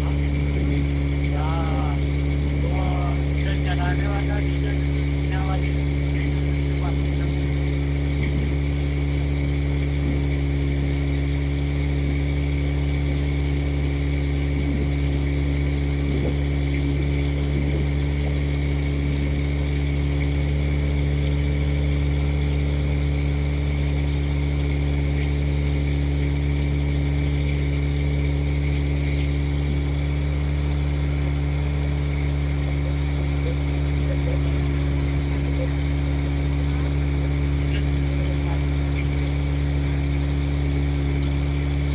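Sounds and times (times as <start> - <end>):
motorboat engine droning: 0.0 - 41.9.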